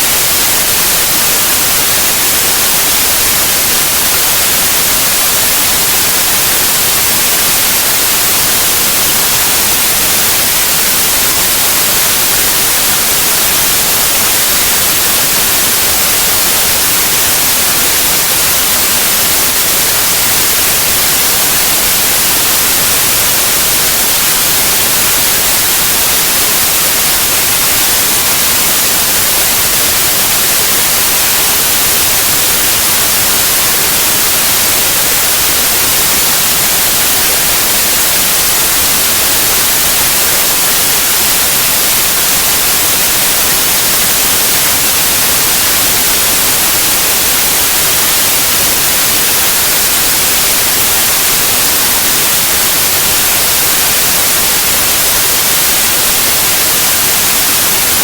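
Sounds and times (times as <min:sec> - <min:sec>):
loud white noise hiss: 0:00.0 - 0:58.0.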